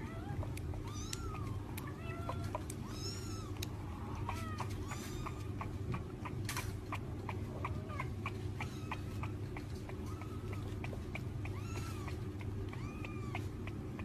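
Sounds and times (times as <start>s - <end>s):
kitten mewing: 0.0s - 14.0s
steady low hum: 0.0s - 14.0s.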